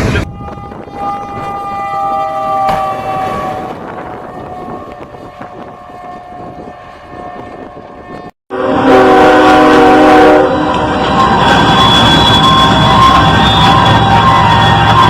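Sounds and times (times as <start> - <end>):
passing train rumble: 0.0 - 15.0
train horn blasting: 0.0 - 15.0.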